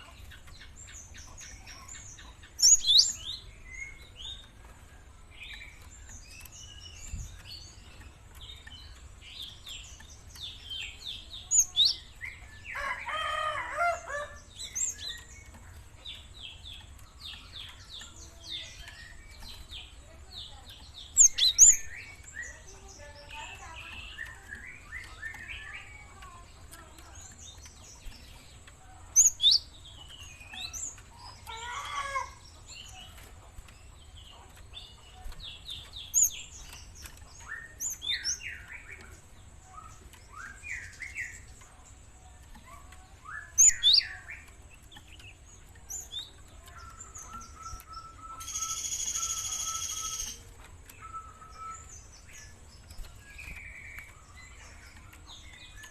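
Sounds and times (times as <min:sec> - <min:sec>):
bird chirping and trilling: 0:00.0 - 0:55.9.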